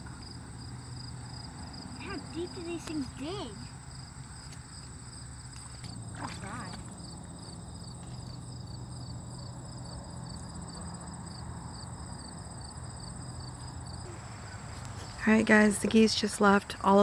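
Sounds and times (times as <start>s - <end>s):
insect chirps: 0.0s - 16.9s
insects trilling: 0.0s - 17.0s.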